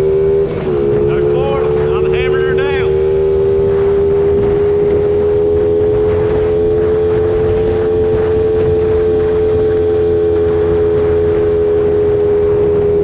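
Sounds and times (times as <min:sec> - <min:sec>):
small motorbike engine at full throttle: 0:00.0 - 0:13.0.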